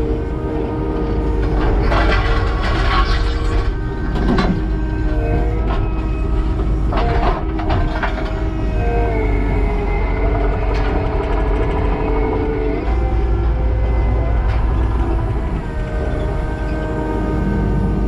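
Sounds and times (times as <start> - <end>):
diesel engine under load: 0.0 - 18.0
hydraulic whine: 0.0 - 18.0.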